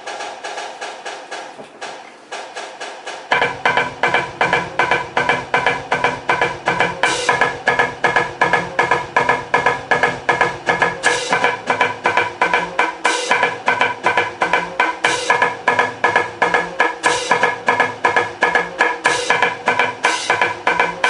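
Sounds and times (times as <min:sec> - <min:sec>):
marching drumline playing: 0:00.0 - 0:21.0
bass drum notes: 0:03.2 - 0:21.0.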